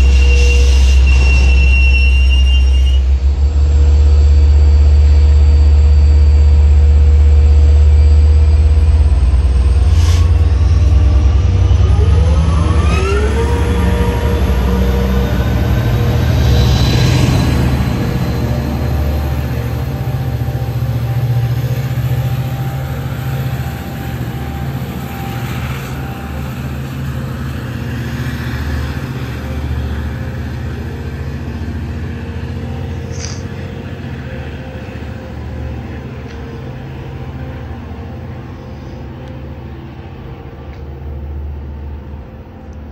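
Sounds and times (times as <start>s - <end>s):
train rumbling and humming: 0.0s - 42.9s.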